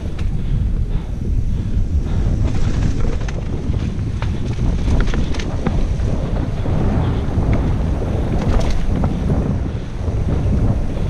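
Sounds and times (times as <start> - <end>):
bike rattling on dirt trail: 0.0 - 11.0
wind buffeting microphone: 0.0 - 11.0.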